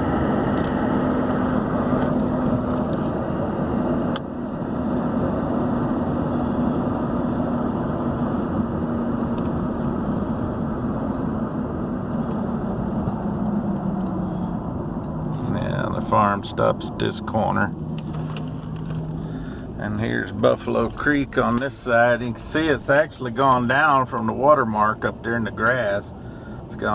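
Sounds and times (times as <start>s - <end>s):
car engine and tyre noise: 0.0s - 26.9s
low steady hum: 0.0s - 26.9s.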